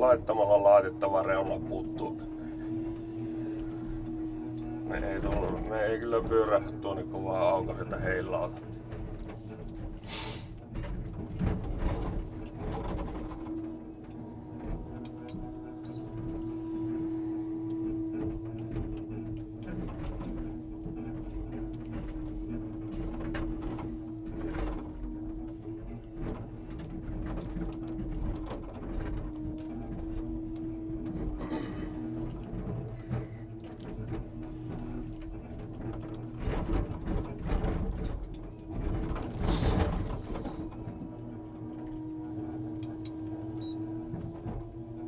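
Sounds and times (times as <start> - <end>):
hydraulic crane whine and rumble: 0.0 - 45.0.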